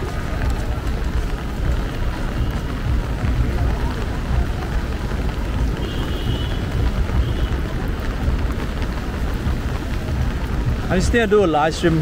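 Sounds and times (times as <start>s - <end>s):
heavy rain on a street: 0.0s - 12.0s.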